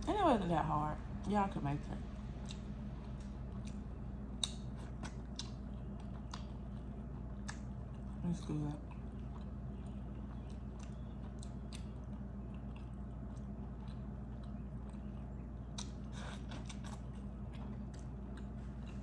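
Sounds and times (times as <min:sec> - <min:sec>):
steady low hum: 0:00.0 - 0:19.0
wet chewing clicks and smacks: 0:02.4 - 0:19.0.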